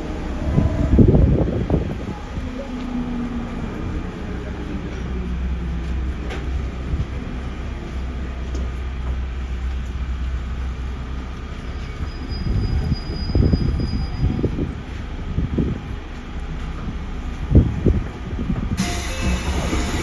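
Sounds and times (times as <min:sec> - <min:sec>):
electric train hum: 0:00.0 - 0:20.0.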